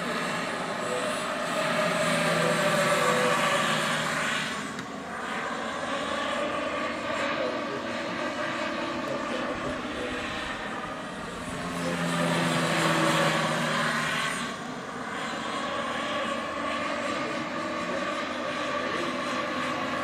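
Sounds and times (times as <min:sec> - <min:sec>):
model helicopter whine and rotor noise: 0:00.0 - 0:20.0.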